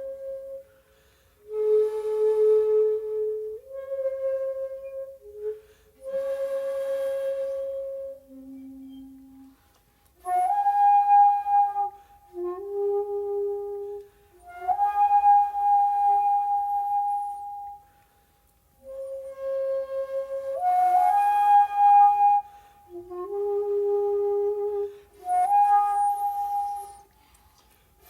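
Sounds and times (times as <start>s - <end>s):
bamboo flute playing long notes: 0.0s - 18.2s, 18.8s - 27.6s.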